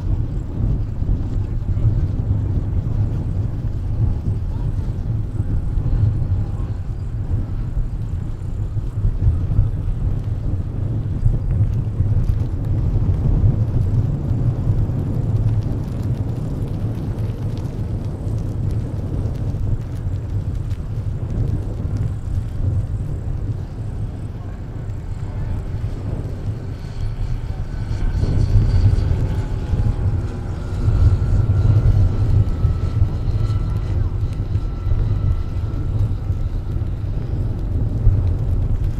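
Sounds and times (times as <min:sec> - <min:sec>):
distant model airplane drone: 0:00.0 - 0:38.9
strong low rumble: 0:00.0 - 0:38.9
wind on microphone: 0:00.0 - 0:38.9.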